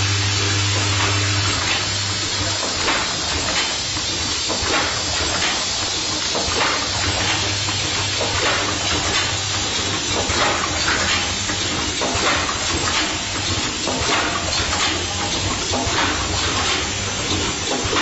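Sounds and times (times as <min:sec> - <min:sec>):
machine hiss and hum: 0:00.0 - 0:18.0.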